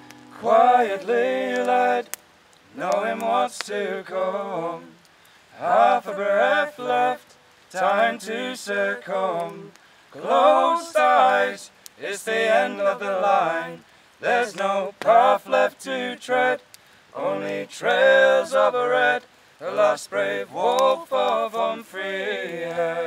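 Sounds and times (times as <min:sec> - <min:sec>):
unaccompanied folk singing: 0:00.0 - 0:23.0.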